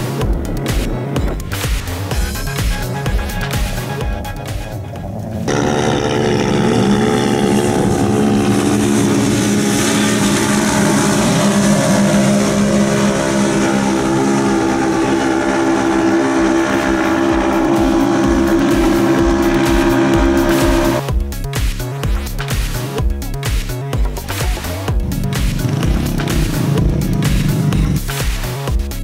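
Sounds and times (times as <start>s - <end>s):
engines running at high revs: 0.0s - 21.1s, 24.0s - 28.6s.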